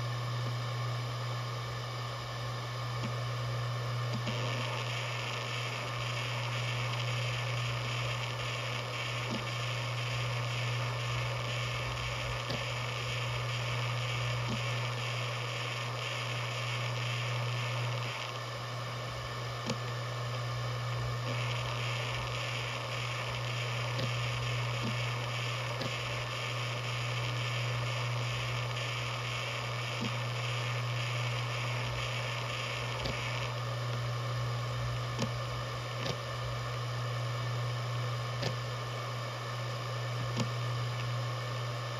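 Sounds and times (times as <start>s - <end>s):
hard drive buzzing: 0.0s - 41.9s.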